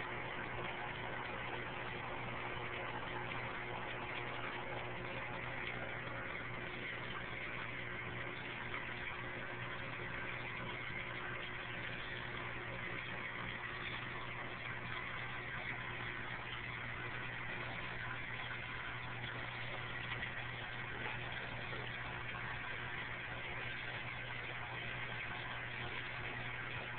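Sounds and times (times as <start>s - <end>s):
mechanical hum: 0.0s - 26.9s.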